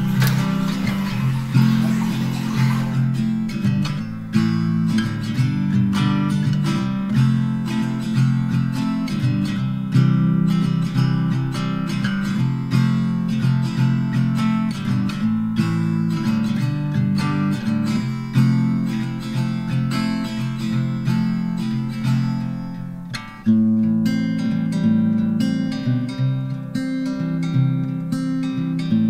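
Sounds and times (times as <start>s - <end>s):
acoustic guitar folk music: 0.0s - 29.0s.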